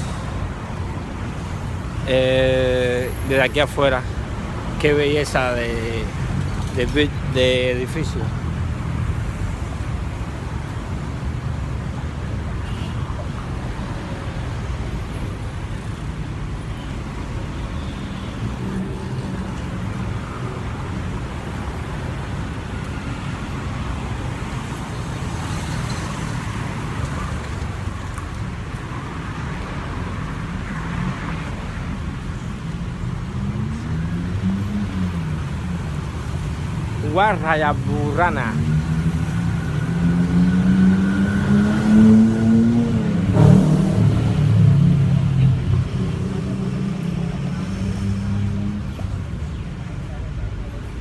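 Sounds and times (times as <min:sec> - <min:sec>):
car engines and tyres rumbling: 0:00.0 - 0:51.0.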